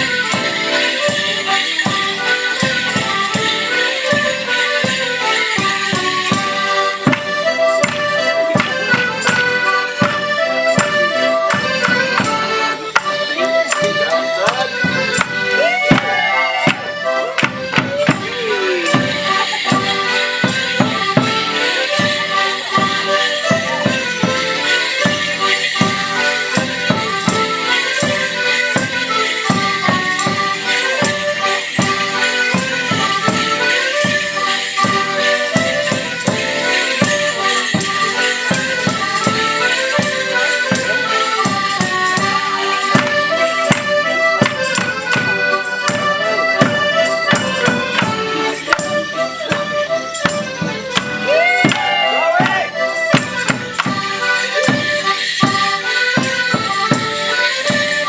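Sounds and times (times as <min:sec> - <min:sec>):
constant jingle of bells: 0:00.0 - 0:58.0
folk band playing dance tune: 0:00.0 - 0:58.0.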